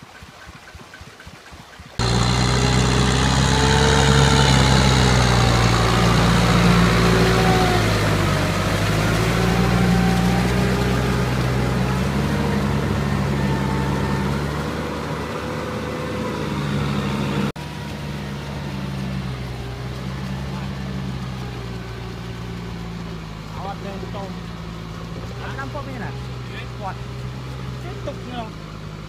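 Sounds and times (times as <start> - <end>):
tractor diesel engine running: 1.5 - 29.0.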